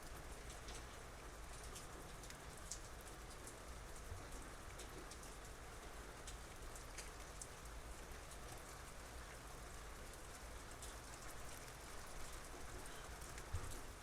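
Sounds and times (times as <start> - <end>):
raindrops ticking on surfaces: 0.0 - 14.0
soft steady rain: 0.0 - 14.0.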